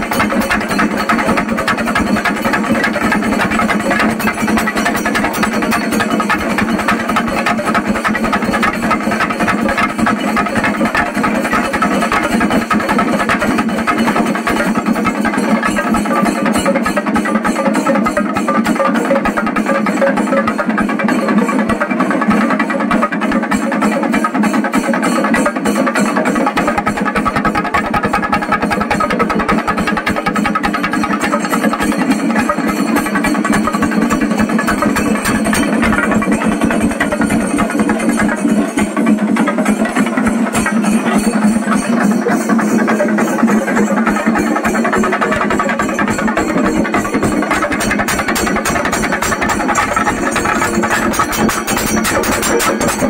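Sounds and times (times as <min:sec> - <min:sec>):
fast drumming with sticks: 0:00.0 - 0:53.0.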